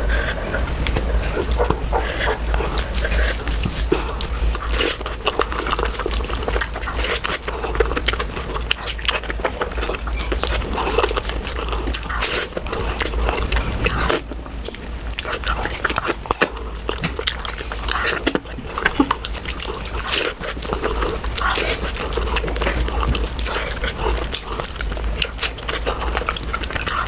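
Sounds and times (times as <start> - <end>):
mouth clicks and squelches: 0.0 - 27.0
wet chewing and smacking: 0.0 - 27.0.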